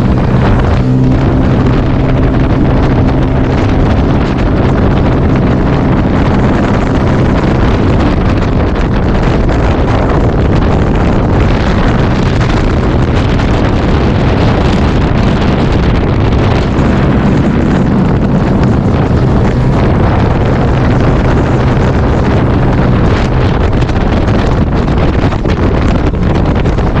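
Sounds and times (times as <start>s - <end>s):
watercraft engine running: 0.0s - 27.0s
wind buffeting microphone: 0.0s - 27.0s.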